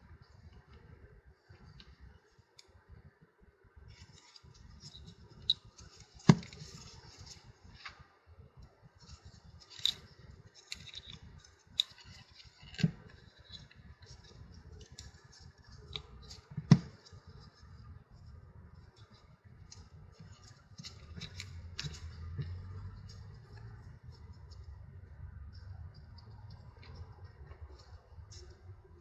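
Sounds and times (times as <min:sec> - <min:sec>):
light clicks and rustles: 0:03.9 - 0:29.0.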